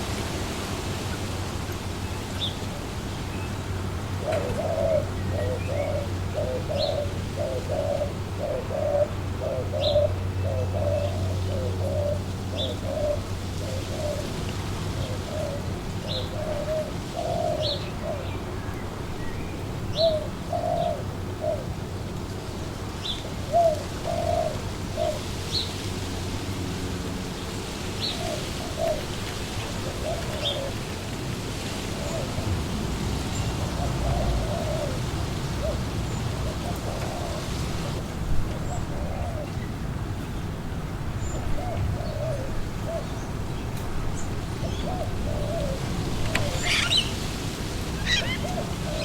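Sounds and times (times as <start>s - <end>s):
wind: 0.0s - 49.0s
pigeons cooing: 3.6s - 18.6s, 19.9s - 21.8s, 22.6s - 25.7s, 28.0s - 39.7s, 41.2s - 49.0s.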